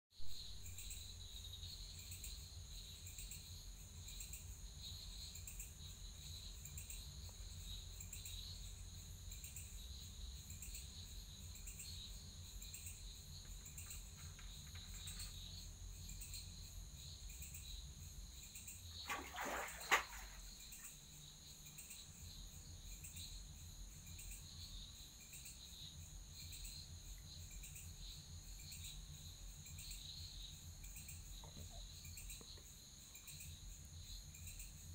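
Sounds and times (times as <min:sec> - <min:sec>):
crickets chirping: 0:00.2 - 0:34.9.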